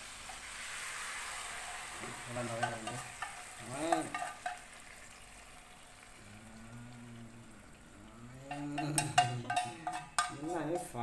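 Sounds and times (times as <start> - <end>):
sauce hissing and trickling: 0.0 - 11.0.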